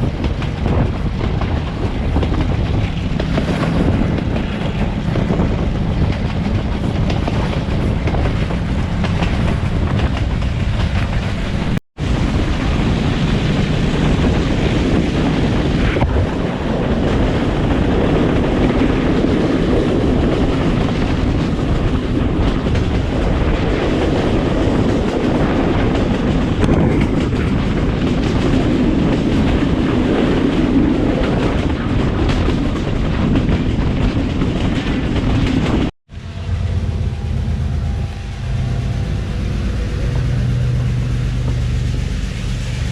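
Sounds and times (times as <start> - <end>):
train rumble: 0.0 - 42.9.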